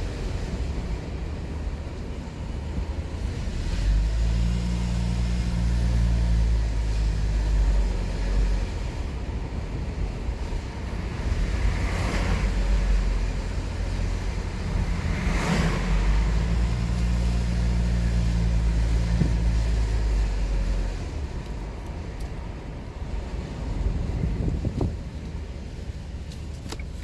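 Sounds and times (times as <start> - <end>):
engine hum: 0.0 - 27.0
road and engine rumble: 0.0 - 27.0.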